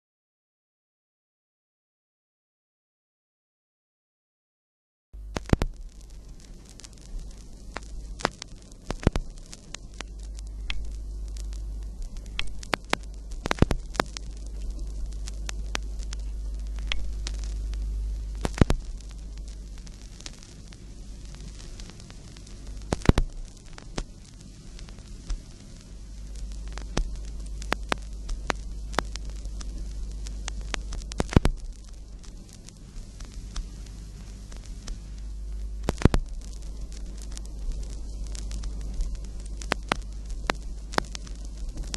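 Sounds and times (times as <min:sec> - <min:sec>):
crackles and sharp pops: 0:05.2 - 0:41.9
faint hiss: 0:05.2 - 0:41.9
steady low hum: 0:05.2 - 0:41.9.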